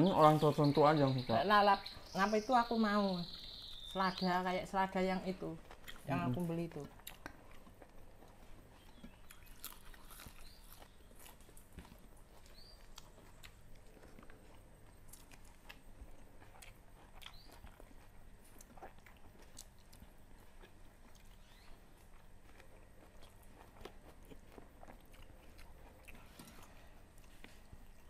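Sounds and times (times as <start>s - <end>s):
people chewing food: 0.0s - 28.0s.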